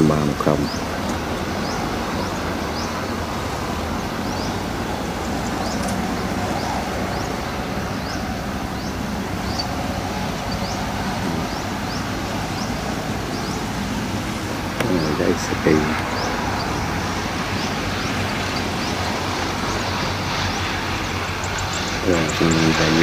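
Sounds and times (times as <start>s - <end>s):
high rising chirp: 0.0s - 23.0s
tractor diesel engines running: 0.0s - 23.0s.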